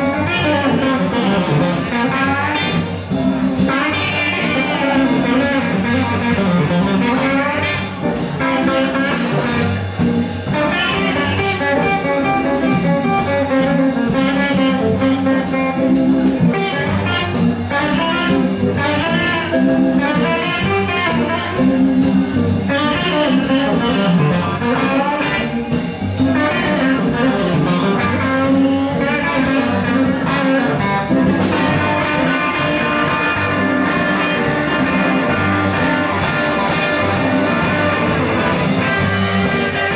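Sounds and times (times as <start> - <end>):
drums with steady beat: 0.0 - 39.9
electric guitar: 0.0 - 39.9.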